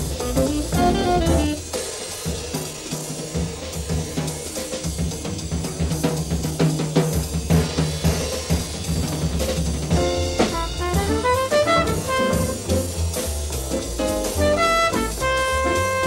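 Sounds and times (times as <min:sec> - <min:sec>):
jazz drum kit: 0:00.0 - 0:16.0.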